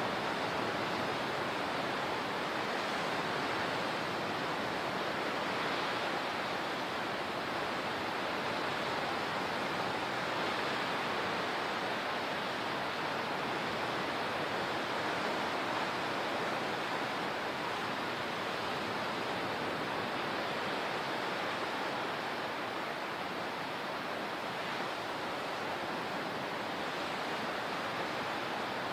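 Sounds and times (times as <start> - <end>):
rushing water: 0.0 - 28.9.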